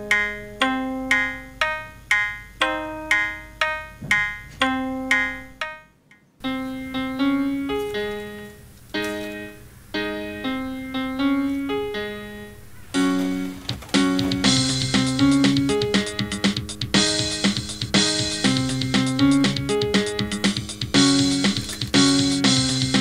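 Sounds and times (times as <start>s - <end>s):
keyboard tune: 0.0s - 23.0s.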